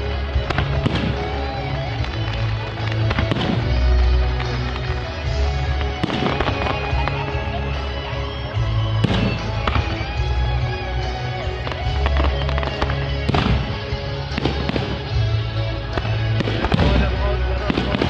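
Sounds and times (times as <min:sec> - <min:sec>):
fireworks bursting and crackling: 0:00.0 - 0:18.0
loud music with strong bass: 0:00.0 - 0:18.0.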